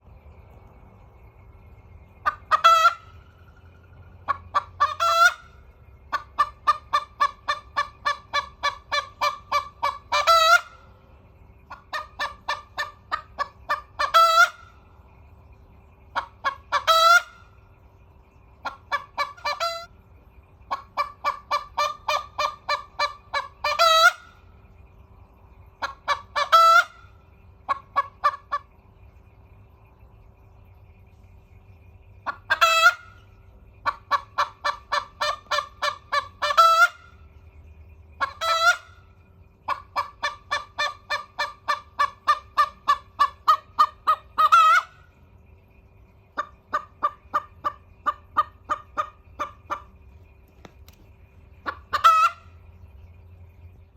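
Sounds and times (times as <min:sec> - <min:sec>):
hen clucking and calling: 0:00.8 - 0:53.9.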